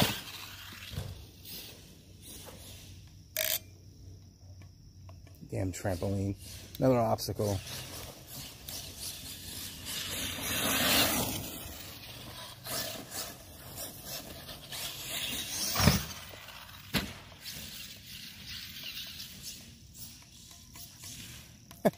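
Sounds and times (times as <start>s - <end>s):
rc car motor and tyres: 0.0s - 21.9s.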